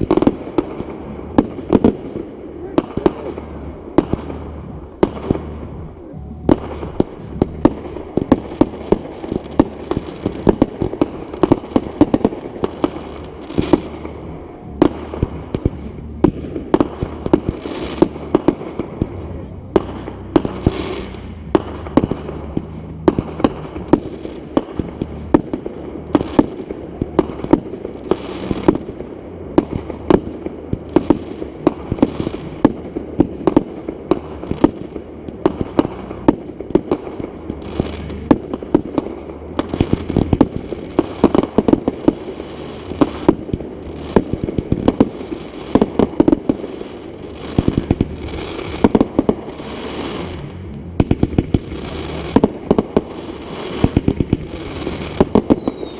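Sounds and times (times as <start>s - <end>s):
fireworks sharp bangs: 0.0s - 55.9s.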